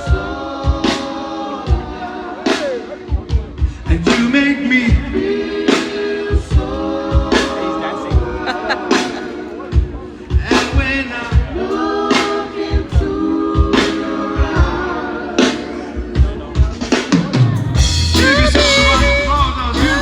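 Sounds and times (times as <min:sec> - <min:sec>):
song with sung vocals: 0:00.0 - 0:20.0
steady drum beat: 0:00.0 - 0:20.0.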